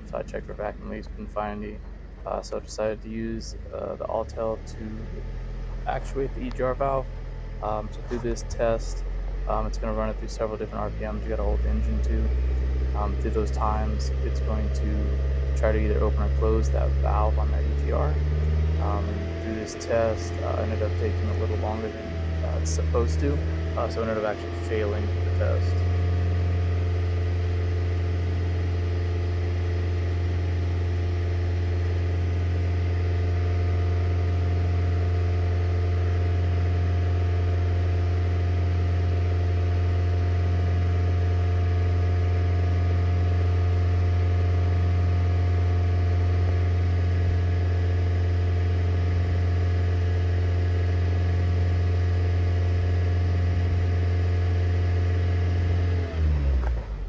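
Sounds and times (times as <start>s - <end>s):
car engine humming steadily: 0.0s - 57.0s.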